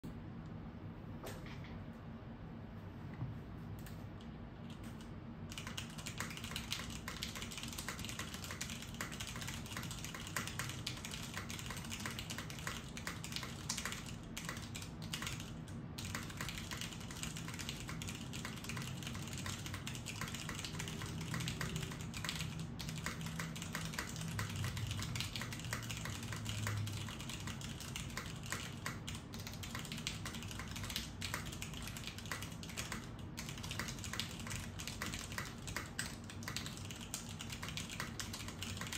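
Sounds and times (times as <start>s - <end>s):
fast typing on mechanical keyboard: 4.7s - 38.9s.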